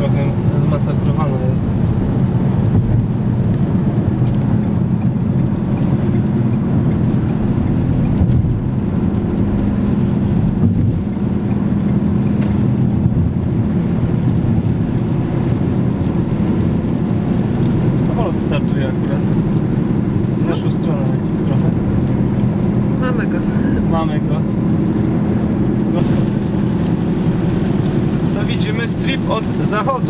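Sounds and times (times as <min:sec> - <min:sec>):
car cabin tyre and engine rumble: 0:00.0 - 0:30.0.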